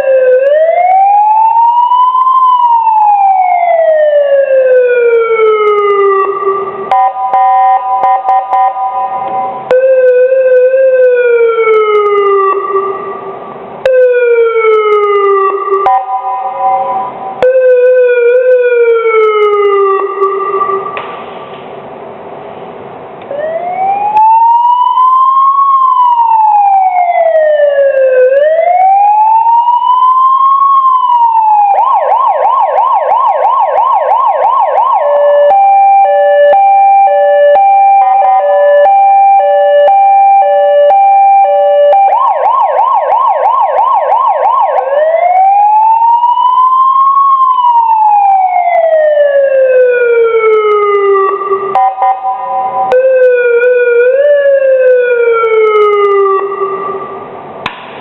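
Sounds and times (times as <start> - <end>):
electronic police siren: 0.0 - 21.0, 23.3 - 57.4.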